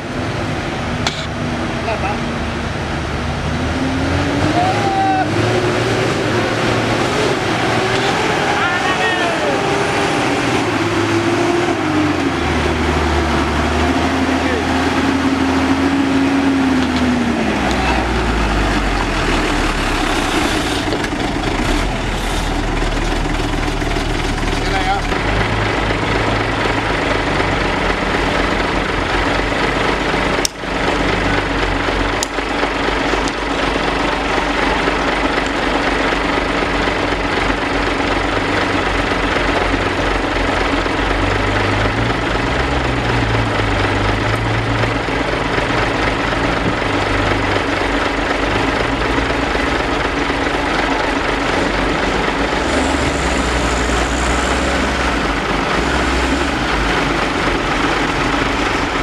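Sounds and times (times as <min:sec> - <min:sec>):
diesel truck engine clatter: 0:00.0 - 0:59.0.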